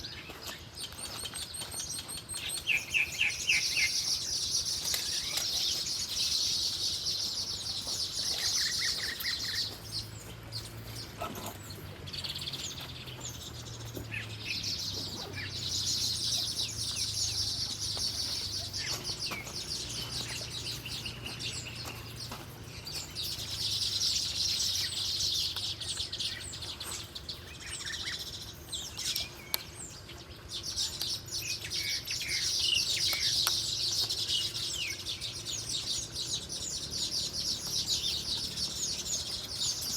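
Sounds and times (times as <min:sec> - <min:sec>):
birds chirping: 0:00.0 - 0:39.9
birds trilling: 0:00.0 - 0:39.9.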